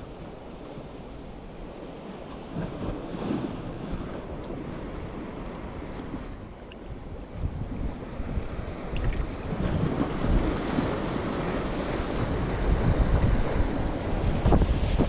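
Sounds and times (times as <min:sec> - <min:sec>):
wind buffeting microphone: 0:02.5 - 0:15.0.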